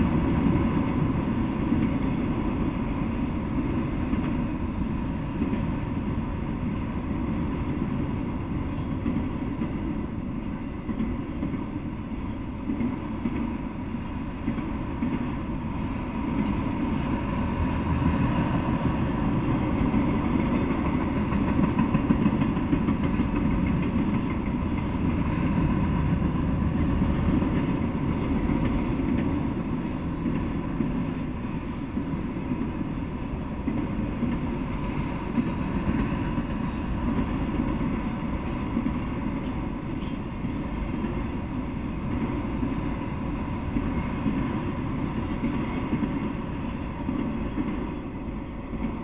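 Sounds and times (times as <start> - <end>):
steel wheels rumbling on rails: 0.0 - 49.0.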